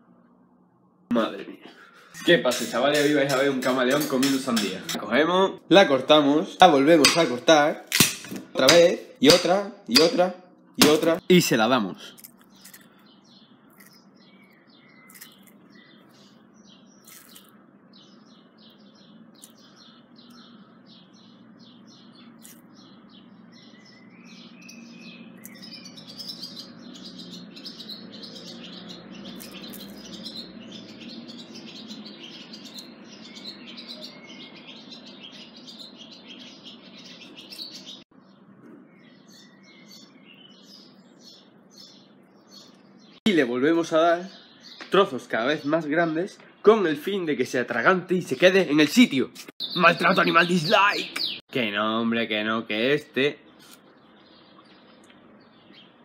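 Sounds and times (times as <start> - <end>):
small birds chirping: 1.1 - 56.0.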